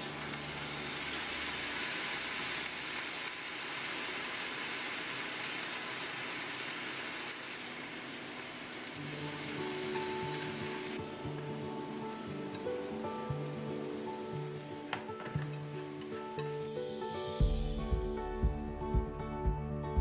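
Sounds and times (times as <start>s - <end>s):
sauce sizzling in frying pan: 0.0s - 17.4s.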